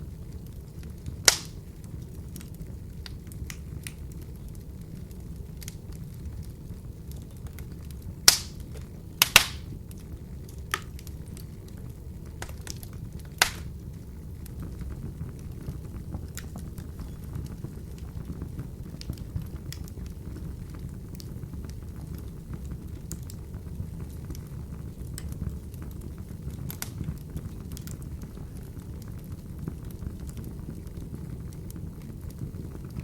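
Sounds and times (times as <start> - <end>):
wood fire burning: 0.0 - 33.0.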